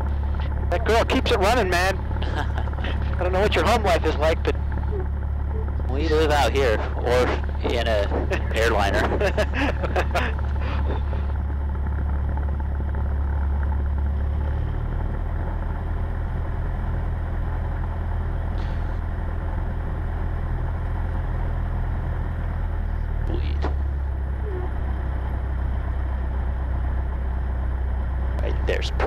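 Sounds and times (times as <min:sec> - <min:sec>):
propeller plane engine humming: 0:00.0 - 0:29.0.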